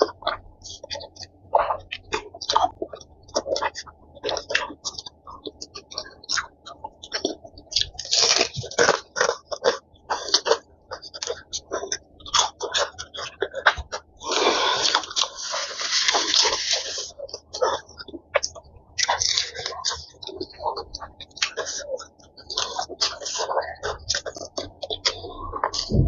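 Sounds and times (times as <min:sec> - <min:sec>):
crunching crispy chicken: 0:01.6 - 0:25.9.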